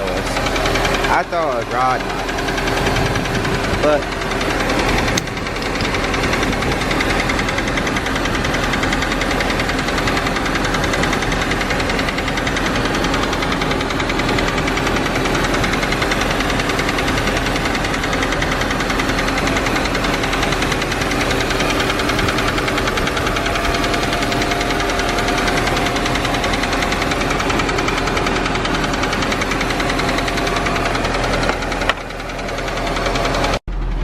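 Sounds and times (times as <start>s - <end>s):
car engine idling with knocking: 0.0s - 34.0s.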